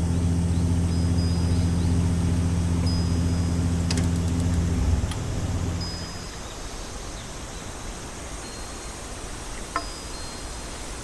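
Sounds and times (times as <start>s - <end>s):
low hum of steady tones: 0.0s - 11.0s.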